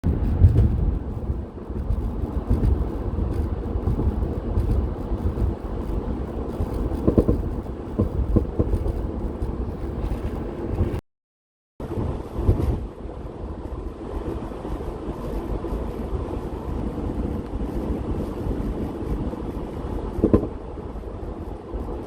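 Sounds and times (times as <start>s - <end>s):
van road and engine rumble: 0.0s - 11.0s, 11.8s - 22.0s.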